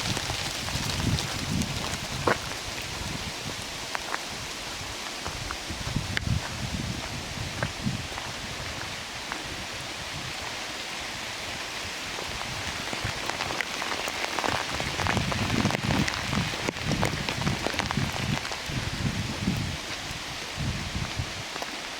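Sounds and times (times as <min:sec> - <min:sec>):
raindrops pattering: 0:00.0 - 0:05.2, 0:08.6 - 0:21.9
rain falling in forest: 0:00.0 - 0:21.9.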